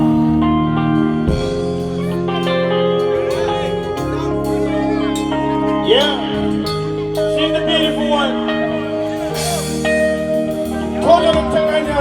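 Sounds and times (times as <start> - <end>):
sustained chords: 0.0 - 12.0.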